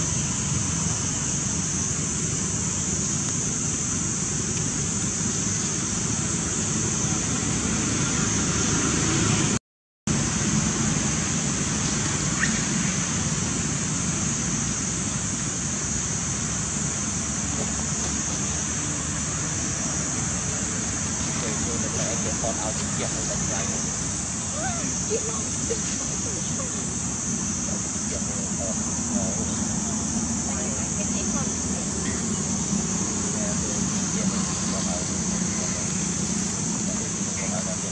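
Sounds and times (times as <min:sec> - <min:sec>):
high hiss: 0:00.0 - 0:37.9.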